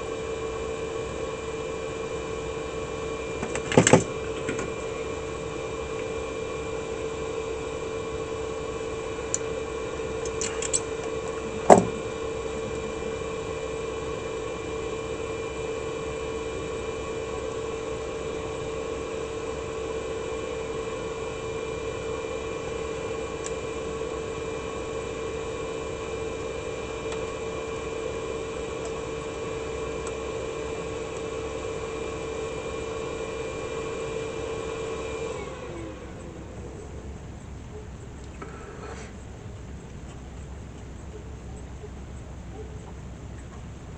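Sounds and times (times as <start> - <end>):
small motor humming: 0.0 - 43.8.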